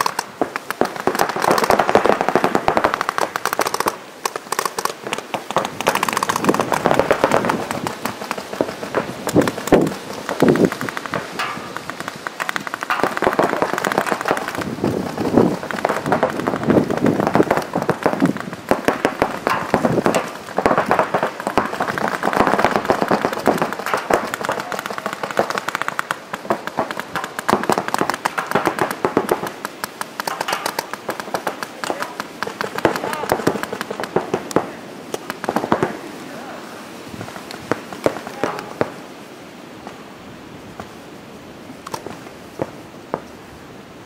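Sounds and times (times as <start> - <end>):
paintball markers popping: 0.0 - 35.8.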